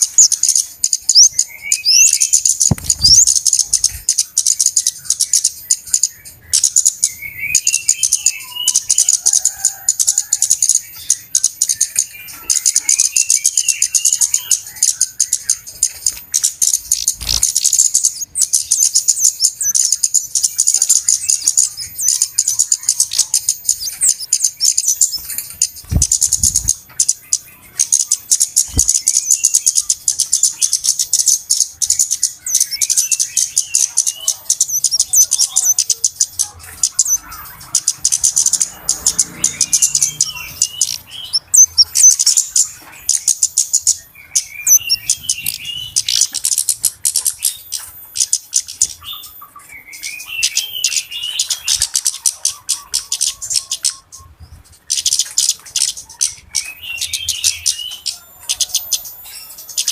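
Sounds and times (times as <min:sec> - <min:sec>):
birds ticking calls: 0:00.0 - 0:59.9
wavering bird twitters: 0:00.0 - 0:59.9.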